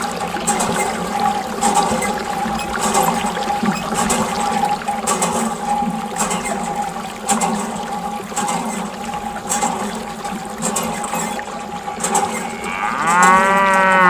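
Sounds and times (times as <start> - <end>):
pump motor whine: 0.0 - 14.0
water splashing and trickling: 0.0 - 14.0.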